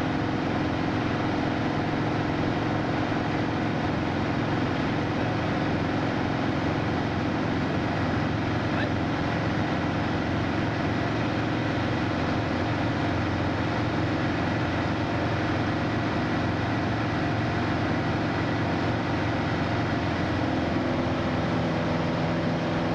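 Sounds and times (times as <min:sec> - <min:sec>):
airplane engine and propeller: 0:00.0 - 0:22.9.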